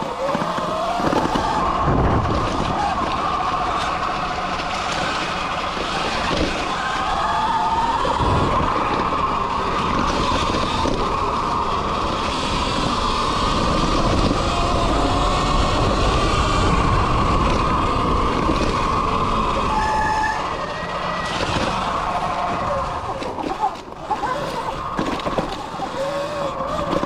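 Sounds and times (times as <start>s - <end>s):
electric motor whine: 0.0s - 27.0s
rumble and rattle of ride: 0.0s - 27.0s.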